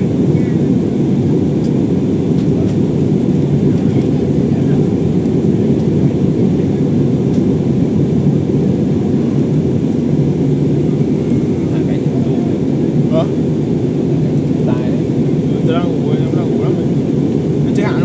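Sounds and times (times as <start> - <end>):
jet engine cabin rush: 0.0 - 18.0.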